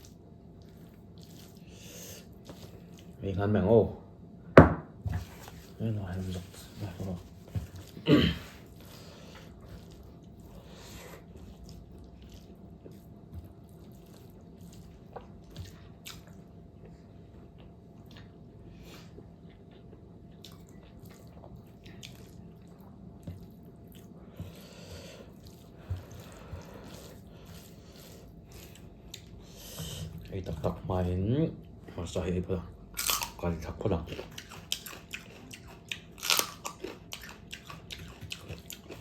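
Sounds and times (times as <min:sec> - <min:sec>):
chewing: 0:00.0 - 0:03.2, 0:05.4 - 0:30.8, 0:33.0 - 0:39.0
steady low hum: 0:00.0 - 0:39.0.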